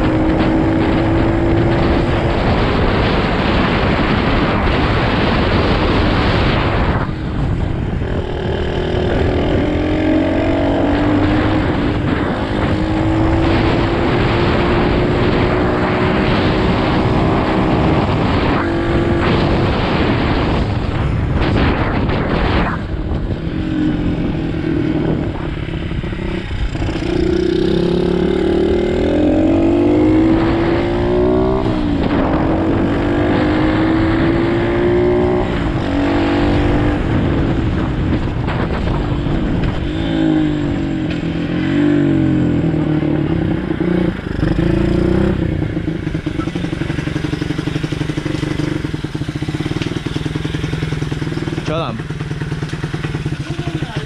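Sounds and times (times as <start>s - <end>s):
motorbike engine revving: 0.0s - 54.0s
wind rush on microphone: 0.0s - 54.0s.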